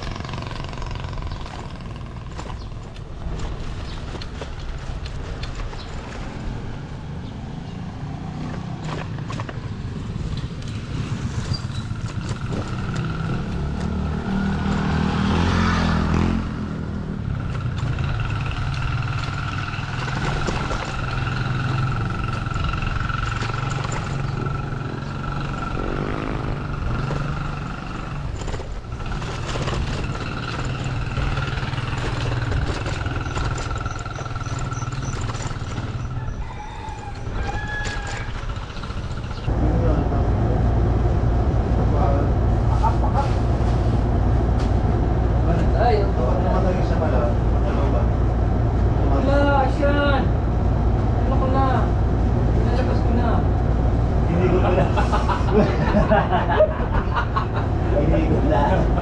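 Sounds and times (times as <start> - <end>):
motorcycle engine running: 0.0 - 36.4, 37.9 - 54.8
vehicle passing: 6.0 - 36.7, 38.8 - 59.0.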